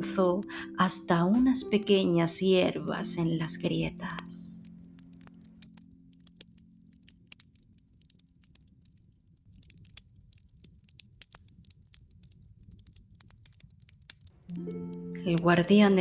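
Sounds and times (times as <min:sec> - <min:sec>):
campfire crackling: 0:00.5 - 0:16.0.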